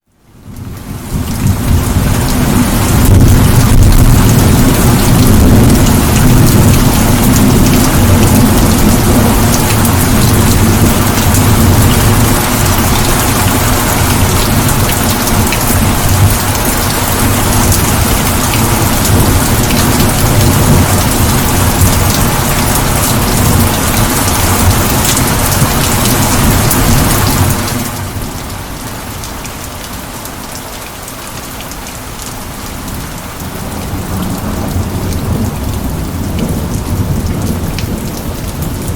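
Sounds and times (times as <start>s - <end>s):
heavy rain pouring: 0.0s - 38.9s
deep thunder rumble: 1.0s - 27.9s, 33.5s - 38.9s.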